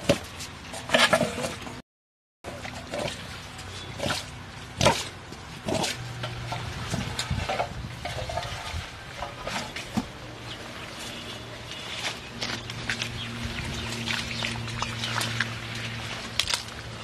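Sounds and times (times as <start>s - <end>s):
muddy water sloshing and splashing: 2.5s - 17.0s.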